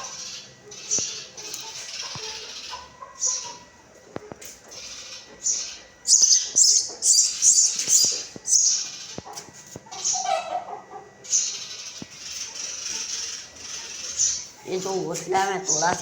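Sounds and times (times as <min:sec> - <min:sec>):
baby birds cheeping: 0:00.0 - 0:16.0.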